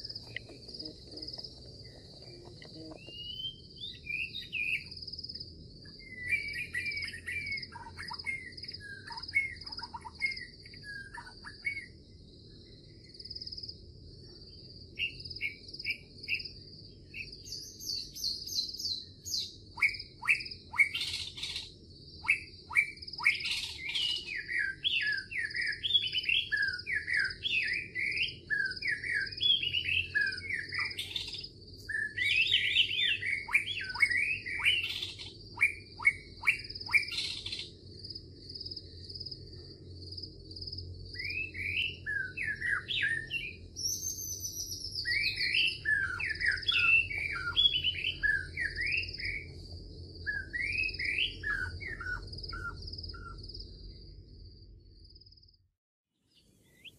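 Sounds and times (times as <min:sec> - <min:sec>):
songbirds chirping and singing: 0:00.0 - 0:54.2.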